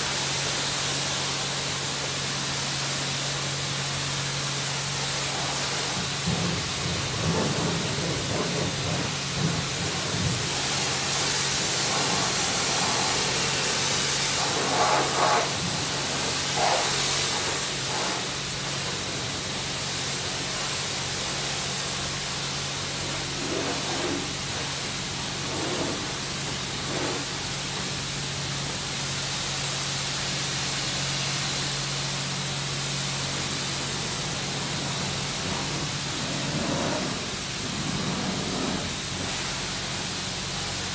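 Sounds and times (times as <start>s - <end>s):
pressure washer spraying water: 0.0s - 40.9s
steady low hum: 5.0s - 40.9s.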